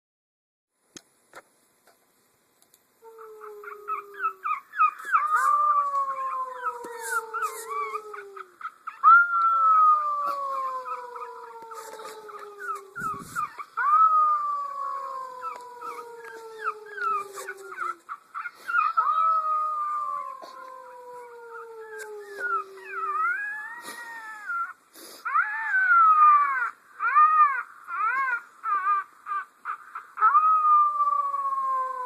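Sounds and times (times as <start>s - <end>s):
dog howling: 3.1s - 32.0s
dog yips and whines: 3.5s - 20.7s, 21.9s - 32.0s.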